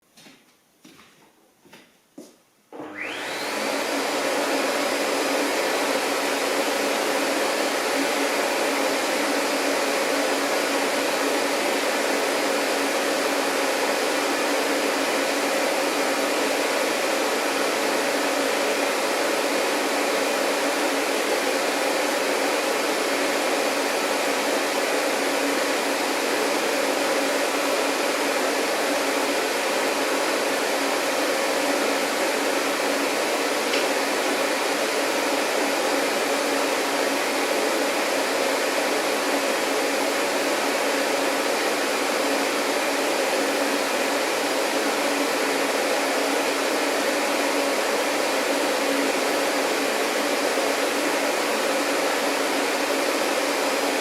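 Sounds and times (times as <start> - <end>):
vacuum cleaner running: 2.7 - 54.0.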